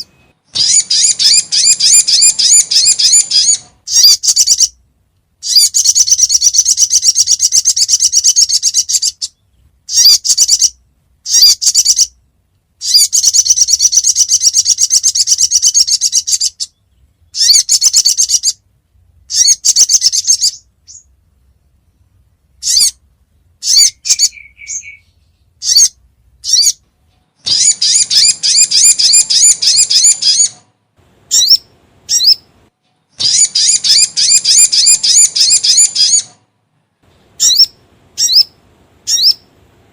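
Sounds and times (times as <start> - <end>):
bird rapid high chipping calls: 0.0 - 4.8, 5.4 - 12.2, 12.8 - 18.7, 19.3 - 21.2, 22.6 - 26.8, 27.4 - 32.5, 33.1 - 36.5, 37.3 - 39.5.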